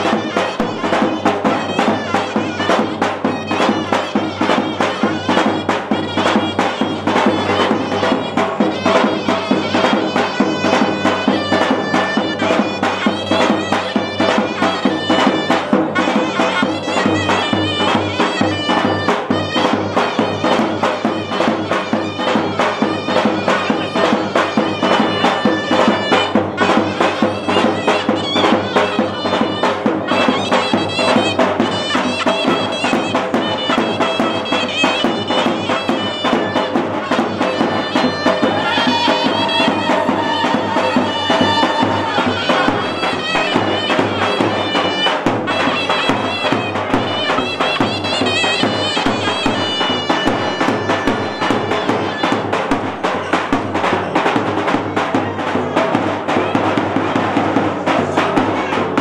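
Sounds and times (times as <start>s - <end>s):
fast drum beat: 0.0s - 59.0s
reedy wind instrument melody: 0.0s - 59.0s.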